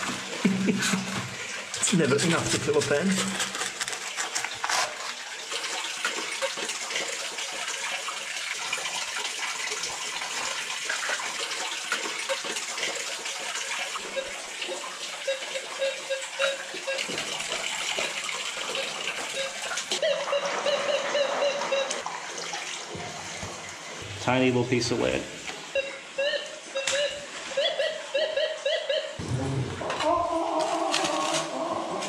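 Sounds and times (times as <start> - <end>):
water sloshing and splashing: 0.0 - 25.8.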